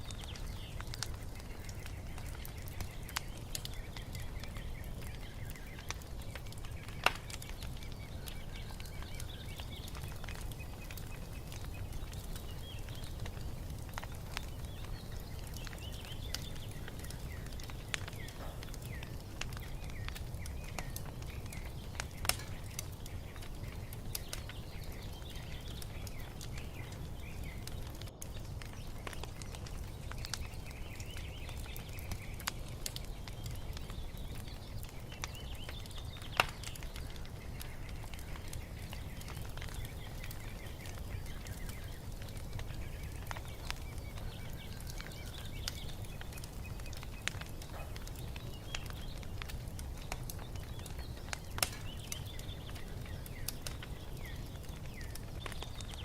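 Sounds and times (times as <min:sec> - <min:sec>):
birds chirping faintly: 0:00.0 - 0:56.0
wood fire crackling and popping: 0:00.0 - 0:56.0.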